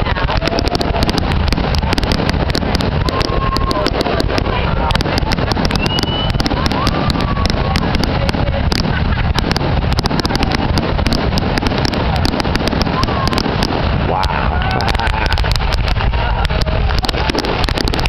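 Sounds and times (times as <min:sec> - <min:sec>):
continuous rumble: 0:00.0 - 0:18.0
fireworks bursting and crackling: 0:00.0 - 0:18.0.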